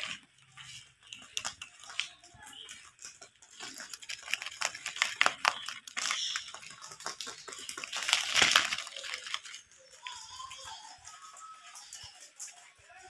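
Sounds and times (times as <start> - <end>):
rabbits chewing crunchy leaves: 0.0 - 13.0.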